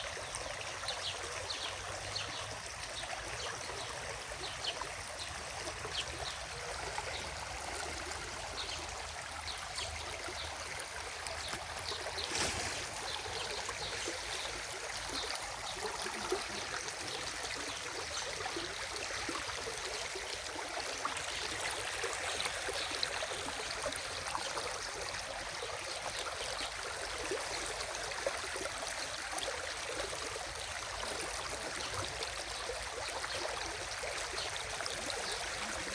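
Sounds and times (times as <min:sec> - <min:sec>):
stream water babbling over stones: 0:00.0 - 0:35.9.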